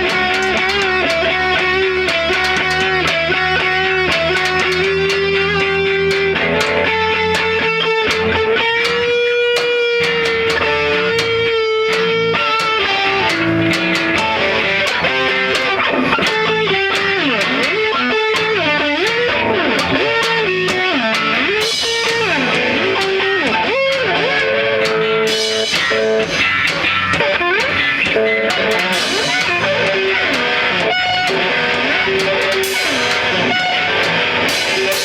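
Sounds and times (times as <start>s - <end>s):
bass guitar: 0.0s - 35.0s
distorted electric guitar bending notes: 0.0s - 35.0s
drums: 0.0s - 35.0s.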